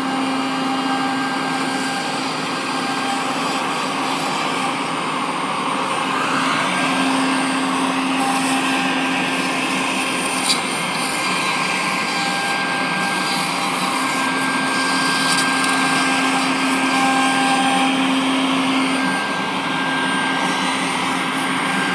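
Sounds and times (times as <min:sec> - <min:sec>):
router spindle cutting wood: 0:00.0 - 0:21.9.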